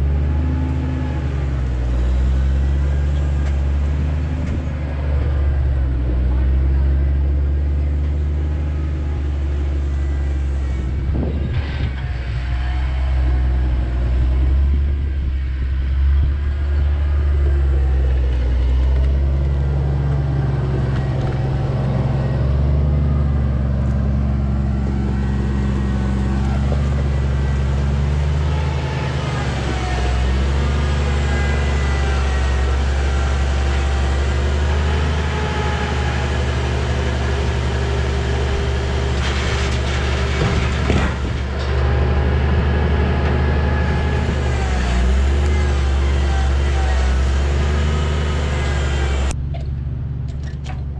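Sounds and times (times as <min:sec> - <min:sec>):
engine droning: 0:00.0 - 0:50.9.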